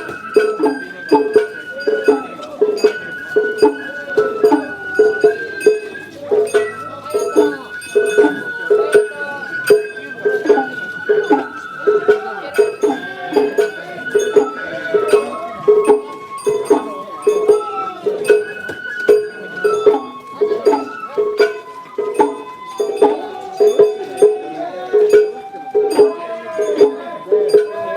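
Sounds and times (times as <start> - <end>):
bamboo flute melody: 0.0 - 27.9
drum beat: 0.0 - 27.9.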